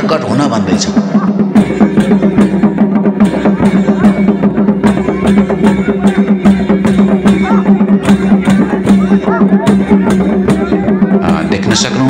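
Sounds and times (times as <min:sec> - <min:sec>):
fast drumbeat: 0:00.0 - 0:12.0
sharp cymbal clashes: 0:01.3 - 0:11.6.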